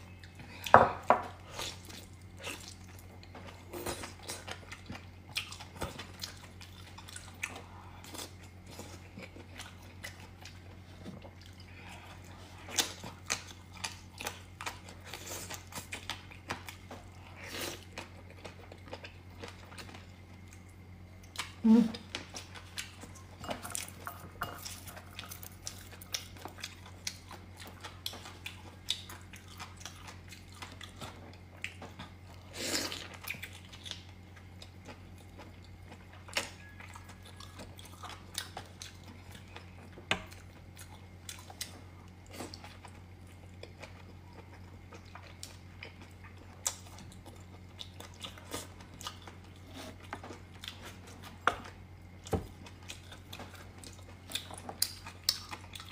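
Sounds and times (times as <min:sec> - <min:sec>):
chewing and eating noodles: 0:00.0 - 0:55.9
steady low hum: 0:00.0 - 0:55.9.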